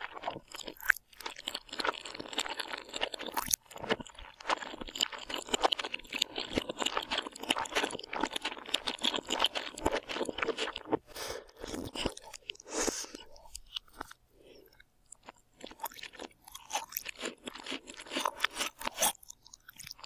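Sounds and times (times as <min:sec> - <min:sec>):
food crunching while chewed: 0:00.0 - 0:20.0.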